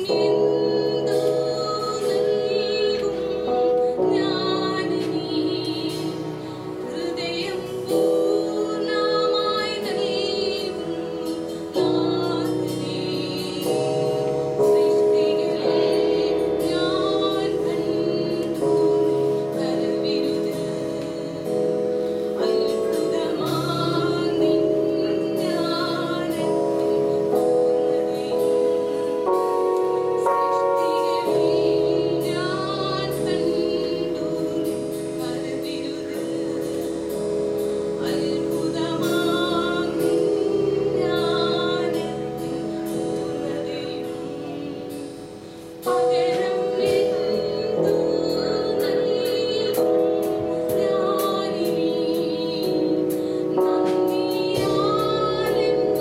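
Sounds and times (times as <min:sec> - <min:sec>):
worship music singing: 0:00.0 - 0:56.0.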